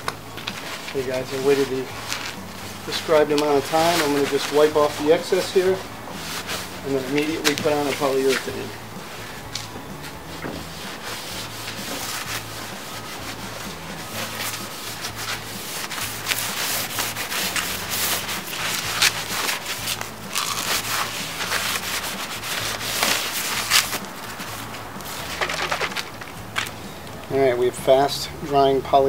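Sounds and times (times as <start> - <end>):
rag wiping wooden boards: 0.5 - 26.7.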